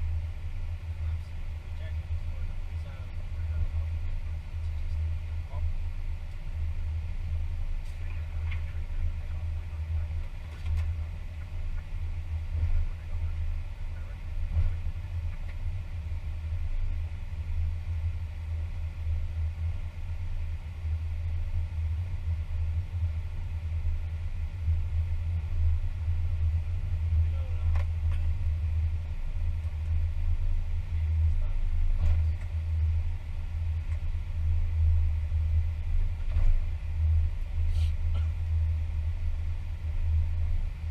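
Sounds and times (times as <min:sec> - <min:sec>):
cockpit low rumble: 0:00.0 - 0:40.9.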